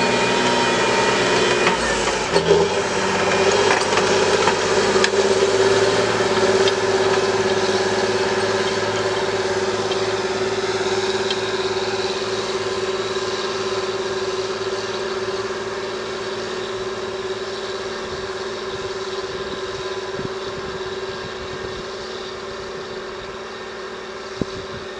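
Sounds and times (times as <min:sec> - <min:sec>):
tractor diesel engine under load: 0:00.0 - 0:24.9.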